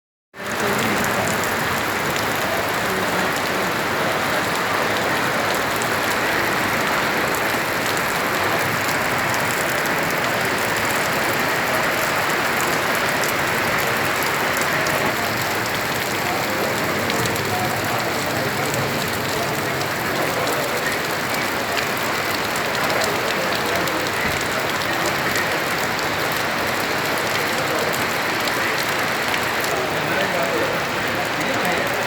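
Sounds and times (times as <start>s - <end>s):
rain on hard surfaces: 0.4s - 32.0s
raindrop ticks: 0.4s - 32.0s.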